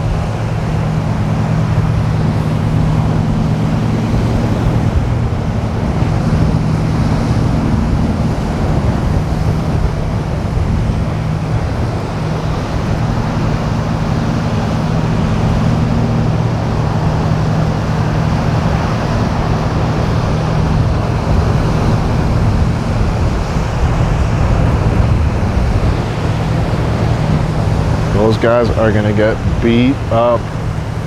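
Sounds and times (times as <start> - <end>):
motor engine humming: 0.0 - 31.0
surf: 0.0 - 31.0
wind: 0.0 - 31.0.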